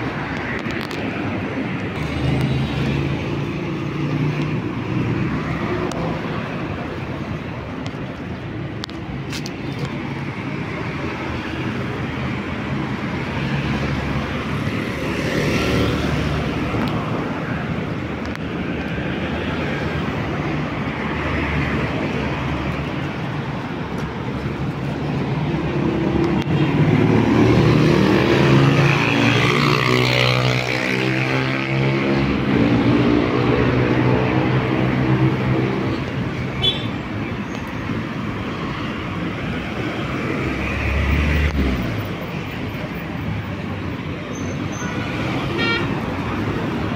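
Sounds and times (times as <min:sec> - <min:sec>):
road traffic passing: 0:00.0 - 0:46.9.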